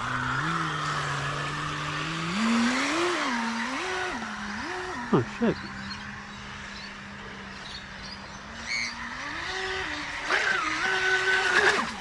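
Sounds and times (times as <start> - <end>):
electric boat motor whining: 0.0 - 12.0.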